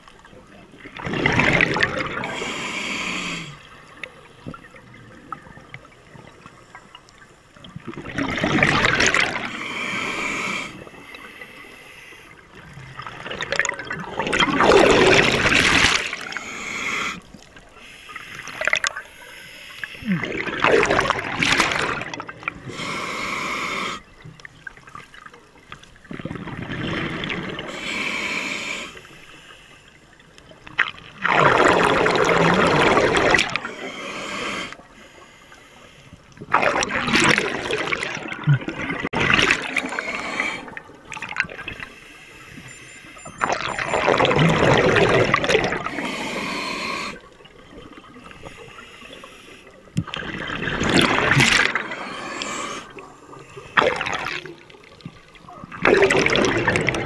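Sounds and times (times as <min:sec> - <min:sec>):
exhaled bubbles underwater: 0:00.0 - 0:02.6, 0:03.3 - 0:11.7, 0:12.3 - 0:17.8, 0:20.0 - 0:27.9, 0:30.2 - 0:34.9, 0:36.3 - 0:48.8, 0:49.9 - 0:57.0.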